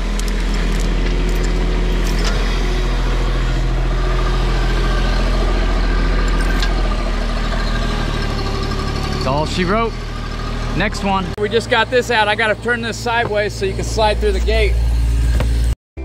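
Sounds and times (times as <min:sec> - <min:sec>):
loader engine running: 0:00.0 - 0:16.0.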